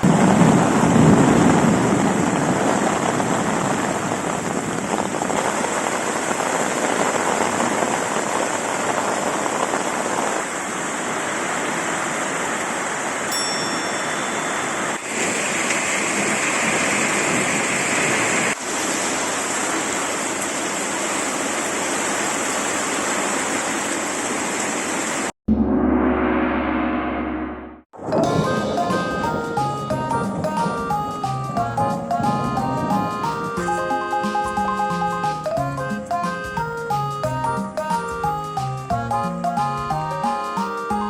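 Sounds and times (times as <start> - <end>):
heavy rain: 0.0 - 25.4, 28.0 - 41.0.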